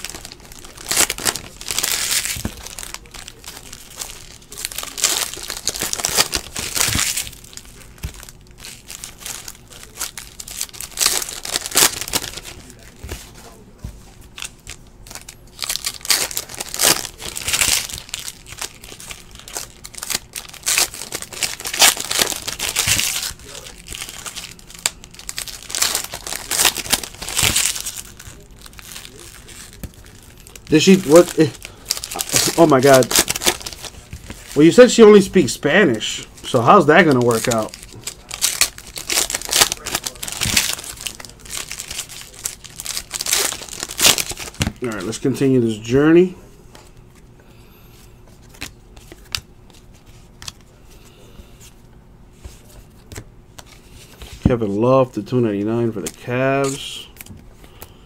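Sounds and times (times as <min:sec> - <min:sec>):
plastic wrappers crinkling: 0:00.0 - 0:47.3, 0:48.3 - 0:50.8, 0:52.4 - 0:58.0.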